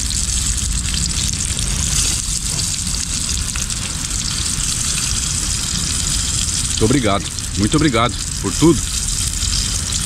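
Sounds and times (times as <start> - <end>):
constant low rumble: 0.0 - 10.0
fish frying in hot oil: 0.0 - 10.0.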